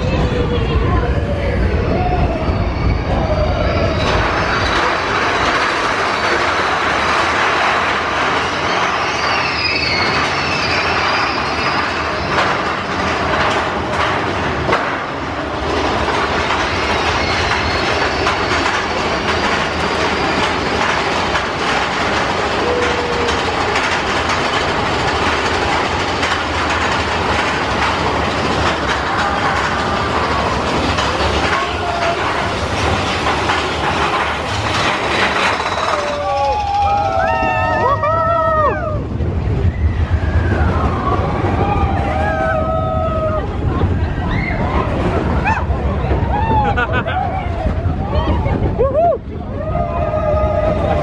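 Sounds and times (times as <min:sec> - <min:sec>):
roller coaster rattling on track: 0:00.0 - 0:51.0.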